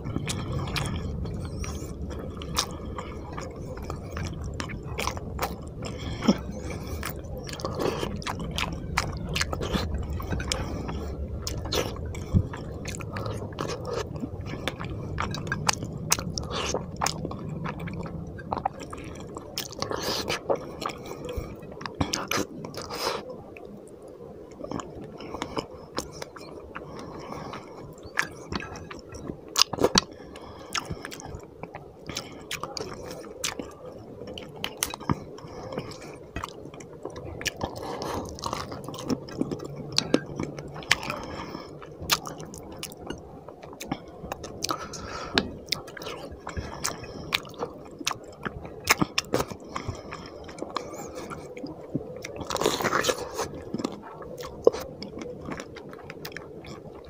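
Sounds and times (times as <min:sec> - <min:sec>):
wet chewing with mouth smacks: 0:00.1 - 0:23.7, 0:24.5 - 0:57.0.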